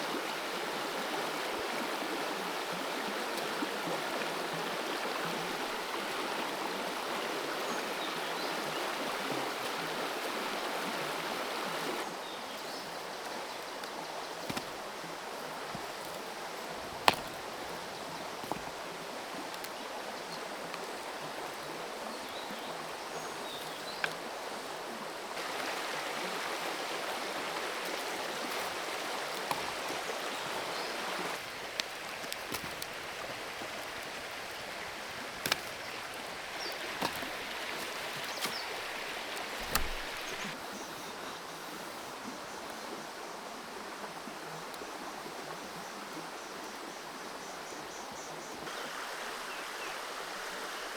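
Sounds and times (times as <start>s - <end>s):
creek water running over stones: 0.0s - 50.9s.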